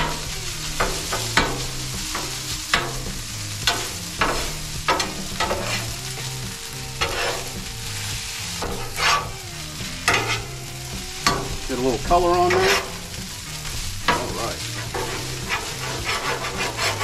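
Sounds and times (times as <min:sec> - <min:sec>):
rice sizzling on griddle: 0:00.0 - 0:17.0
spatula scraping steel griddle: 0:00.0 - 0:17.0.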